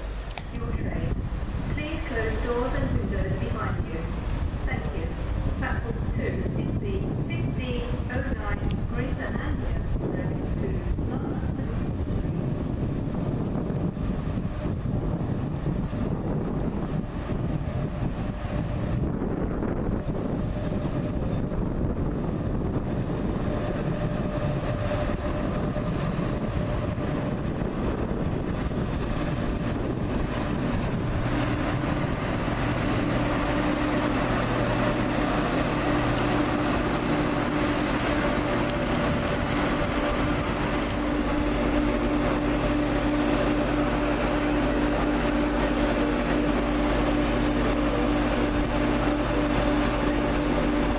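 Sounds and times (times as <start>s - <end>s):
droning engine tone: 0.0s - 50.9s
train rumbling: 0.0s - 50.9s.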